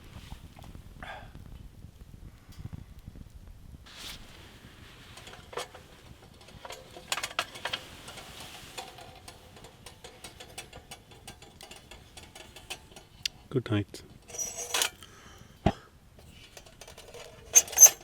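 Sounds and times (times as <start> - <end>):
wood fire crackling: 0.0 - 15.6.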